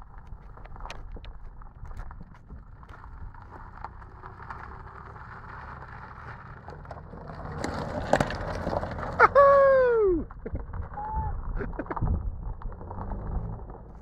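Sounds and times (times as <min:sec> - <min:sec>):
tyres crunching on gravel: 0:00.0 - 0:09.5, 0:11.8 - 0:14.0
low engine rumble: 0:00.0 - 0:14.0.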